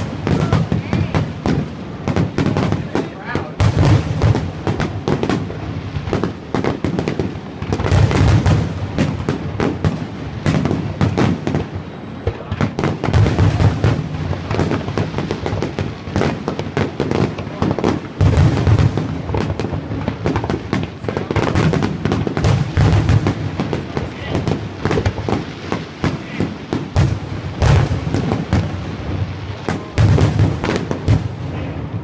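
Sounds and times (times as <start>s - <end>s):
fireworks bangs and crackling: 0.0s - 32.0s
heavy firework booms: 0.0s - 32.0s.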